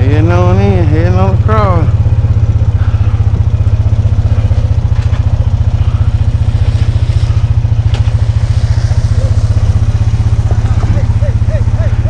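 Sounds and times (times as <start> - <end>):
small vehicle engine putter: 0.0 - 12.0.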